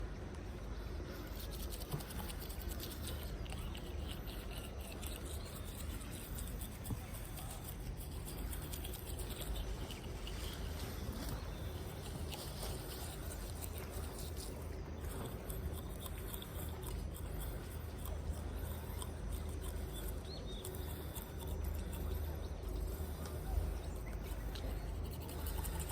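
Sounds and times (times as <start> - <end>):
low steady rumble: 0.0 - 25.9
toothbrush scrubbing teeth: 1.2 - 25.9.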